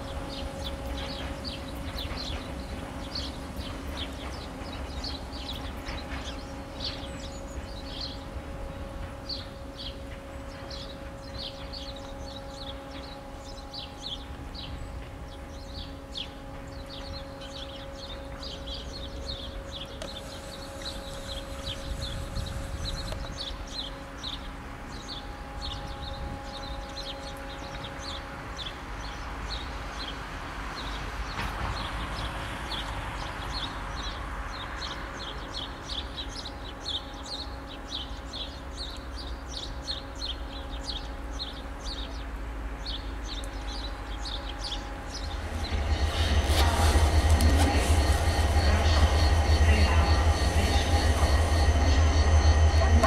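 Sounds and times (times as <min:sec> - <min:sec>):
diesel train approaching: 0:00.0 - 0:53.0.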